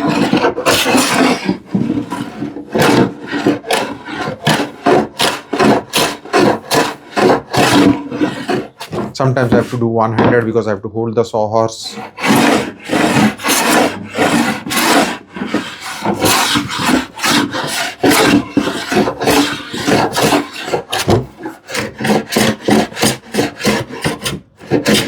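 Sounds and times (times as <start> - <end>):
hand plane strokes on wood: 0.0 - 10.0, 11.8 - 25.0.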